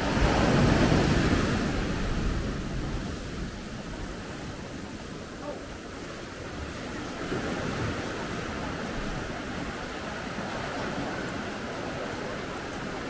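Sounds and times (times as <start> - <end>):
waves washing on beach: 0.0 - 13.0
wind rumbling on microphone: 0.0 - 13.0.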